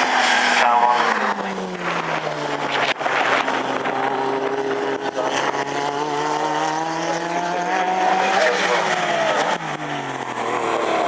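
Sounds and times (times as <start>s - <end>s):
racing car engines at speed: 0.0s - 11.0s.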